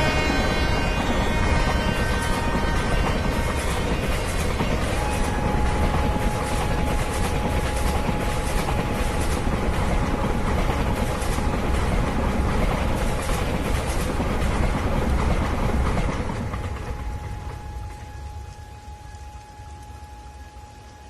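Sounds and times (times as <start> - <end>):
locomotive hum: 0.0 - 20.7.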